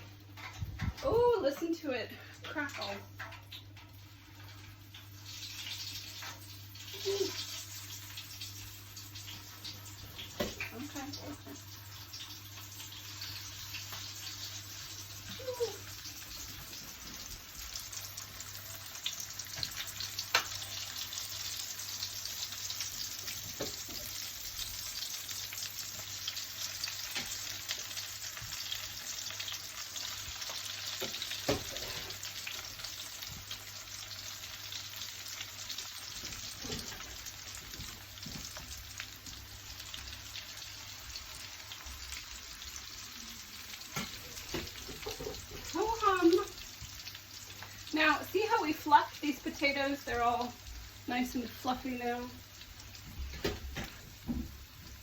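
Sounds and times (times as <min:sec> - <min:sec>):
potatoes sizzling in hot oil: 0:00.0 - 0:55.0.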